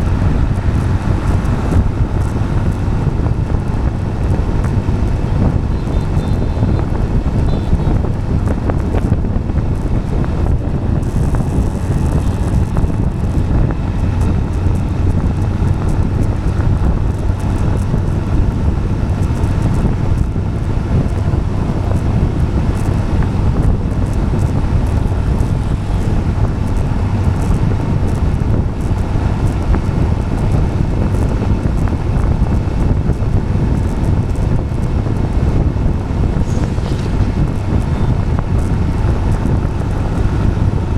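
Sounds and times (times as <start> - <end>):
tyres rolling on asphalt: 0.0 - 40.9
wind buffeting microphone: 0.0 - 40.9.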